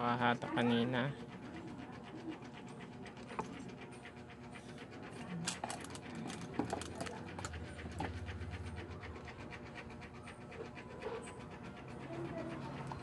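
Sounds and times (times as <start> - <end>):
fast panting: 0.0 - 13.0.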